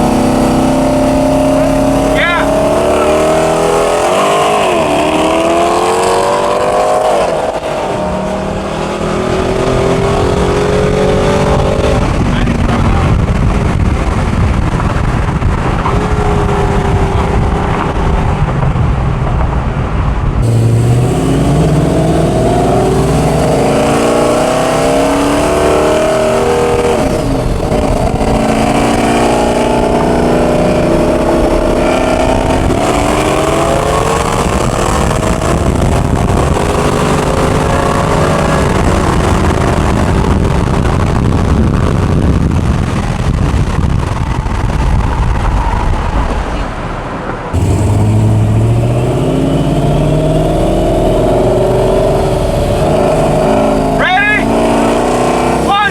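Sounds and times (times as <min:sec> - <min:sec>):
rough engine rumble: 0:00.0 - 0:55.9
truck engines at full throttle: 0:00.0 - 0:55.9.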